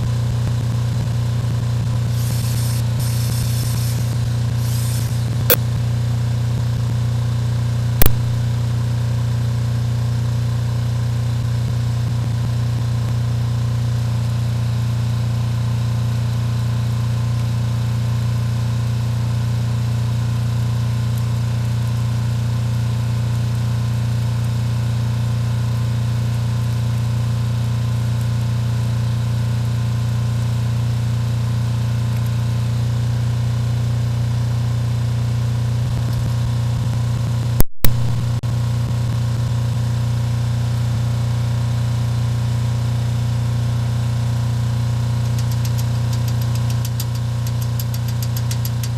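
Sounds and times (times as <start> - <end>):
engine idling: 0.0 - 30.8, 32.1 - 48.9.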